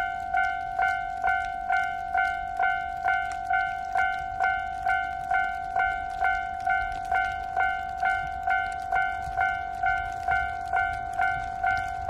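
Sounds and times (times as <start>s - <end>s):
railway crossing bell ringing: 0.0s - 12.0s.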